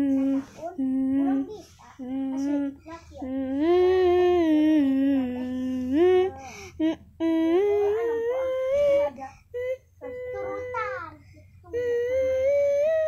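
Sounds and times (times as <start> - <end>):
child humming: 0.0 - 13.0.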